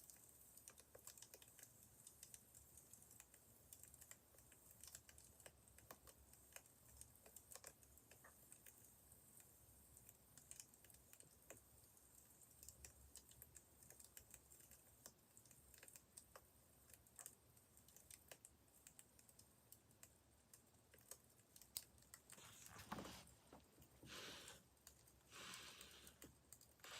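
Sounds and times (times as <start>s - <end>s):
wood fire crackling: 0.1s - 26.9s.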